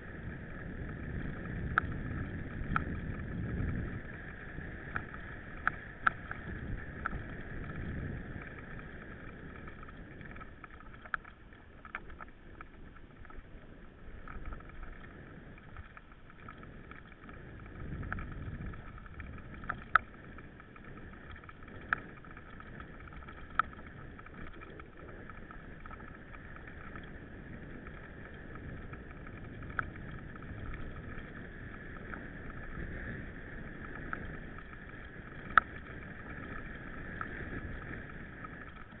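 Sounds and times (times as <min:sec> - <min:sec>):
wind on microphone: 0:00.0 - 0:10.8, 0:12.8 - 0:39.0.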